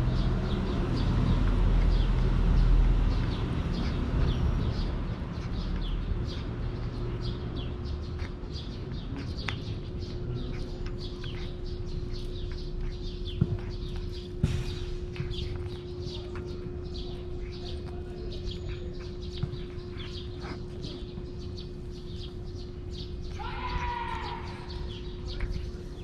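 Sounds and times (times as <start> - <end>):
cat eating from steel bowl: 0.0 - 23.3
small birds chirping: 0.0 - 26.0.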